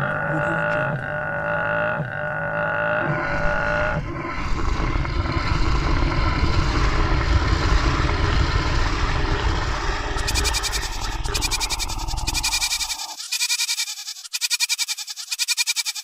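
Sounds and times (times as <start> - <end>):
leopards growling: 0.0 - 14.0.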